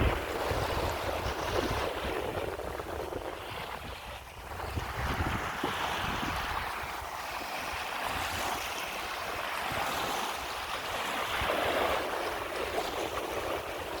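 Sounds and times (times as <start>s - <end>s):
waves washing on shore: 0.0s - 14.0s
wind on microphone: 0.0s - 14.0s.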